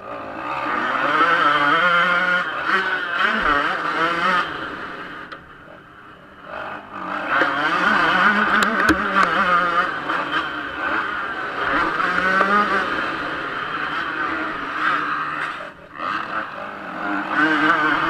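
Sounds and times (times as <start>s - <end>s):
two-stroke motocross engine revving: 0.0s - 18.0s.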